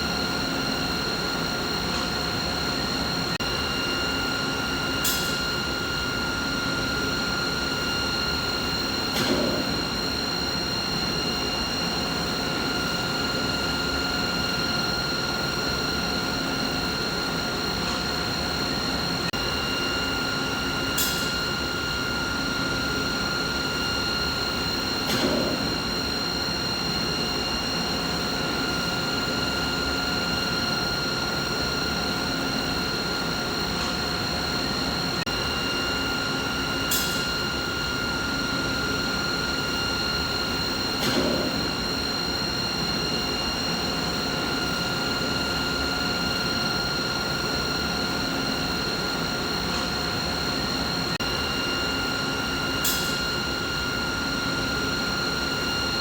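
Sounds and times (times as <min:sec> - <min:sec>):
machinery hum with high whine: 0:00.0 - 0:56.0.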